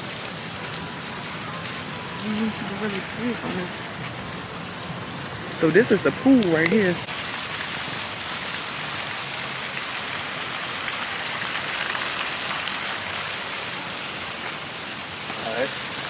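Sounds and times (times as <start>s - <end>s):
falling water hiss: 0.0s - 16.0s.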